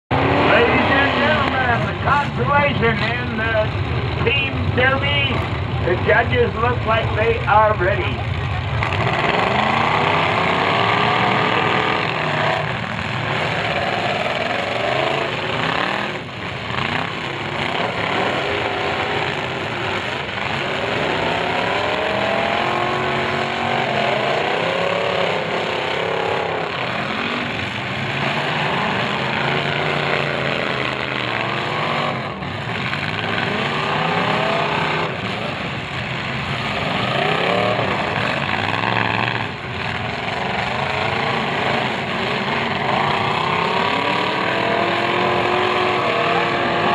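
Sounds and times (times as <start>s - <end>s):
car engines revving: 0.1s - 46.9s.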